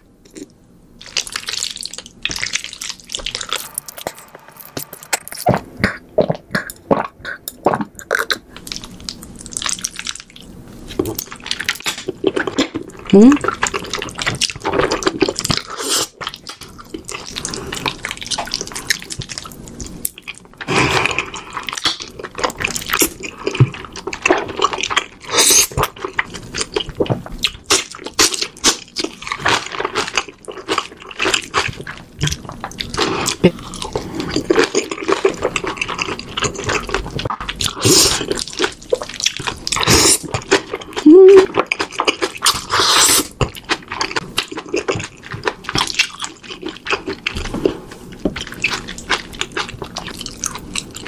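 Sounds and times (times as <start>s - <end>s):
noodles slurped and chewed: 1.0s - 51.0s.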